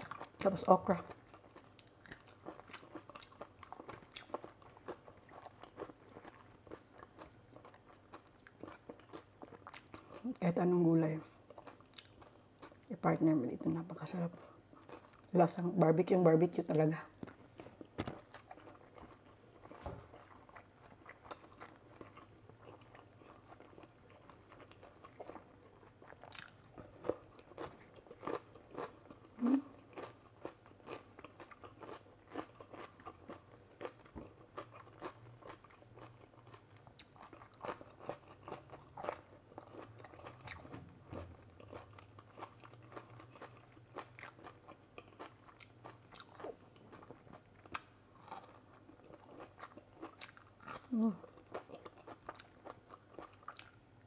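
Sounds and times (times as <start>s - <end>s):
chewing and biting food: 0.0s - 10.4s, 11.3s - 12.9s, 14.4s - 15.3s, 17.1s - 53.9s.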